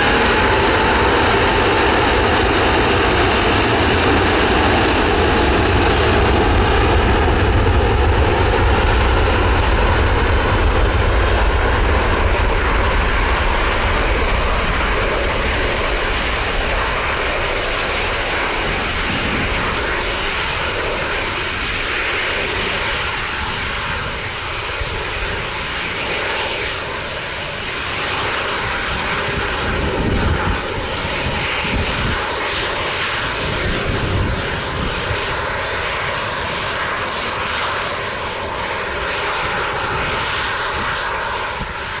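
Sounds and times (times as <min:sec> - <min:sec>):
jet engines running: 0:00.0 - 0:42.0.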